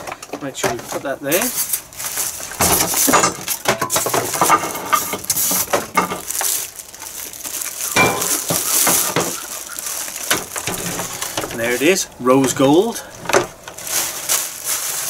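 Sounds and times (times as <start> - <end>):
knocks and clatter of handling: 0.0 - 15.0
plastic bag rustling and crinkling: 0.0 - 15.0.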